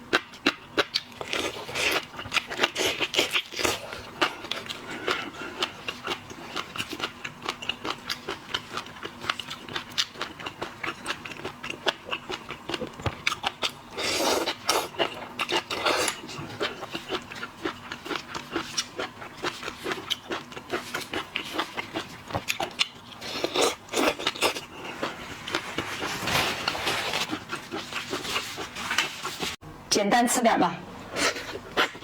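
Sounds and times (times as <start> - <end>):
person chewing wetly: 0.0 - 26.1, 27.2 - 29.6.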